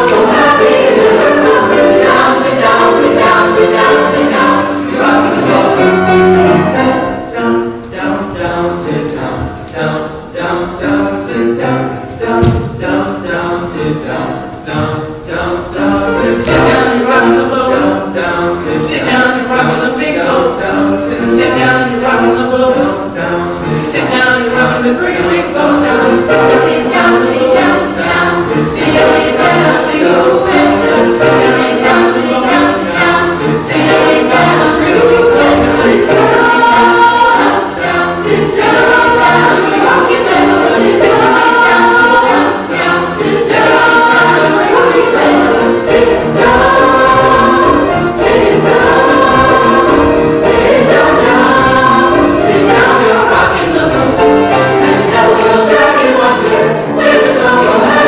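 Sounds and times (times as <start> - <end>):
mixed choir singing show tune: 0.0 - 58.0.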